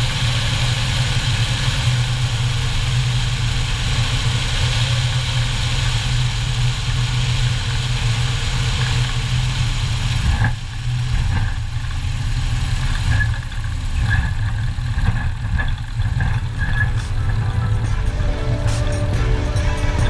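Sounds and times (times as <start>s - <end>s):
aircraft engine low throb: 0.0s - 20.0s.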